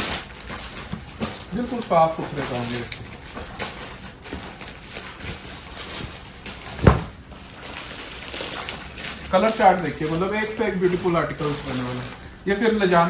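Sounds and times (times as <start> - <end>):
cloth rustling: 0.0 - 13.0.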